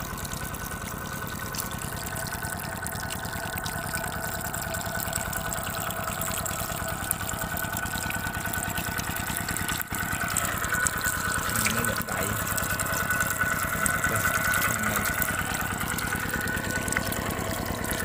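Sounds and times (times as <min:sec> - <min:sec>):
shallow water rushing: 0:00.0 - 0:18.0
small engine running: 0:00.0 - 0:18.0.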